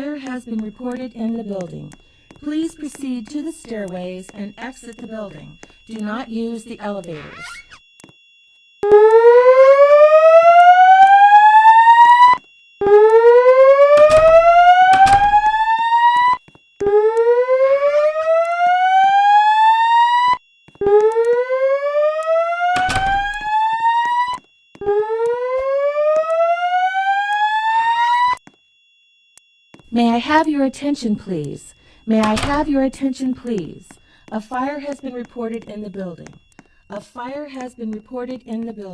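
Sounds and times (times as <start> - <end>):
slow-whoop evacuation alarm tone: 0.0 - 38.9.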